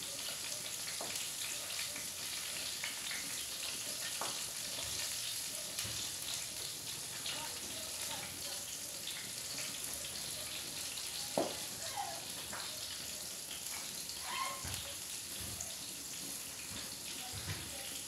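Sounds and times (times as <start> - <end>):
food frying sizzle: 0.0 - 18.0.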